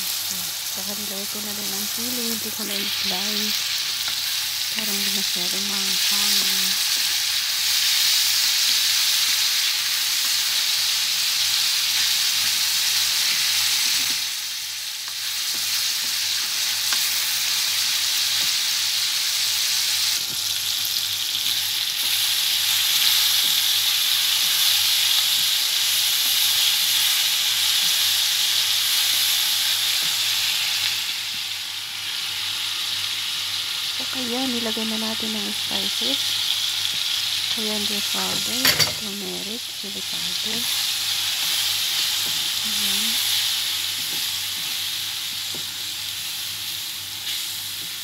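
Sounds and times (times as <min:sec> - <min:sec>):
vegetables sizzling in hot oil: 0:00.0 - 0:48.0.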